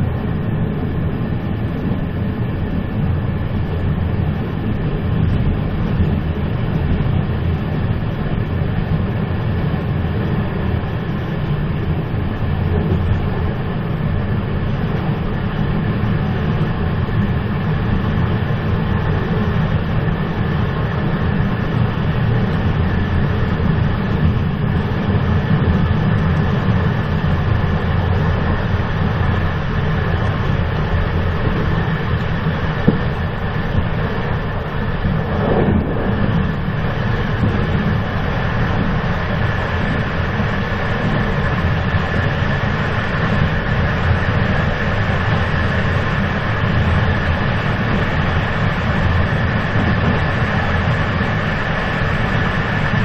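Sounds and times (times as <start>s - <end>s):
train rumbling: 10.6s - 53.0s.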